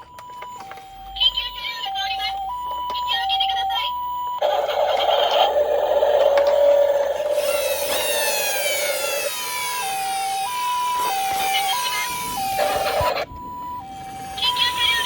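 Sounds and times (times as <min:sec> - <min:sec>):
rising wailing siren: 0:00.0 - 0:15.0
two-tone hi-lo siren: 0:00.0 - 0:15.0.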